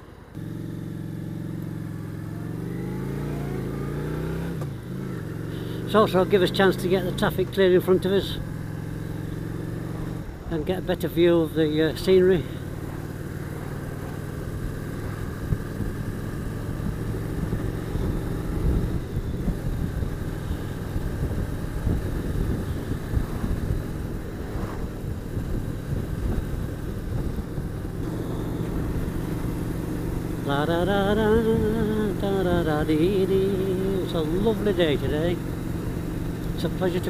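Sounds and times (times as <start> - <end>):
motorcycle engine running: 0.0 - 37.0
wind and road noise: 0.0 - 37.0.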